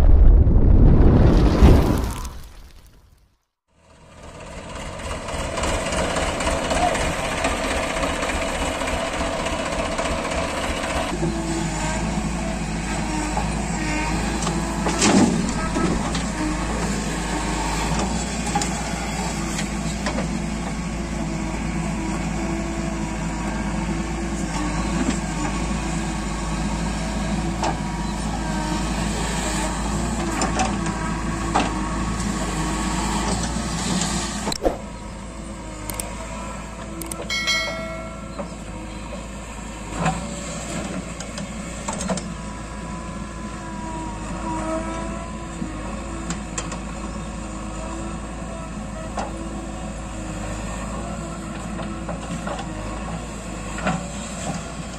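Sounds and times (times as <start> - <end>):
backhoe loader diesel engine: 3.8 - 54.9
tractor diesel engine running: 3.8 - 54.9.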